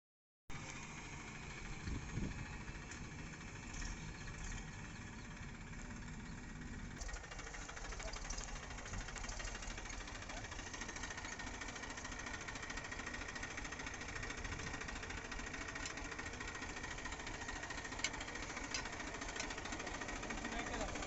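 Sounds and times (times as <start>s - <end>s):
heavy diesel engine idling: 0.5s - 21.0s.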